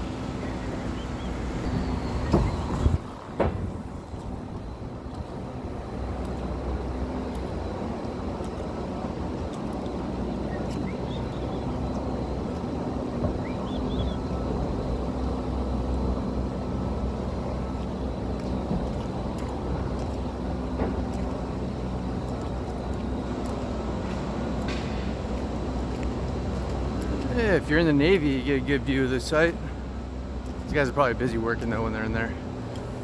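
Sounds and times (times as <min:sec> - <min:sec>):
constant low hum: 0:00.0 - 0:33.0
street traffic rumble: 0:00.0 - 0:33.0.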